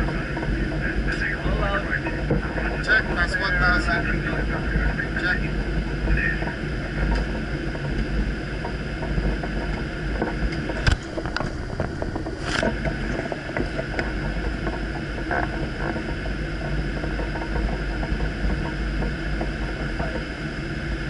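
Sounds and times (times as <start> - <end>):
airflow and engines rumbling: 0.0 - 21.0.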